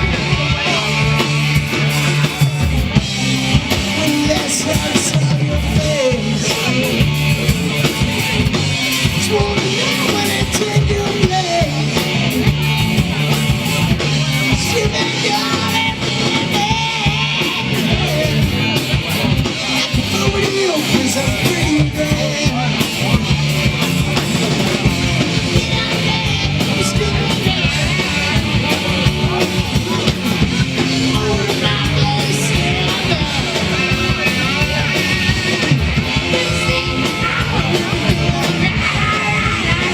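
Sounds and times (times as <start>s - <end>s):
drums: 0.0s - 39.9s
electric guitar: 0.0s - 39.9s
person singing: 3.6s - 39.9s.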